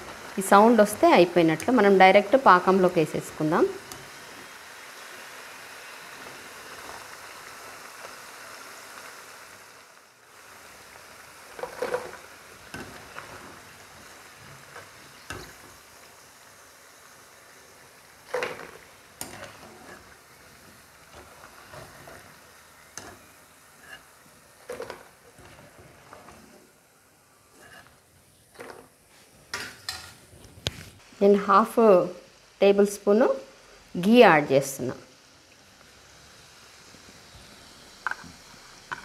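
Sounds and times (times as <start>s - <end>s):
hot oil sizzling: 0.0s - 39.0s.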